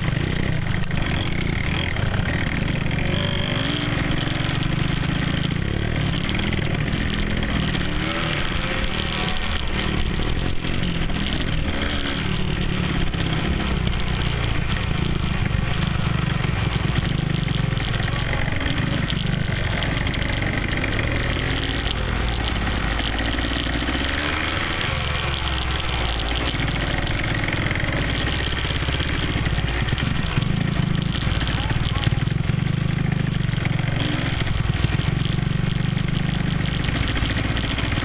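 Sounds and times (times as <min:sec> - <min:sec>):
atv engine: 0:00.0 - 0:38.0
dirt bike engine: 0:00.0 - 0:38.0.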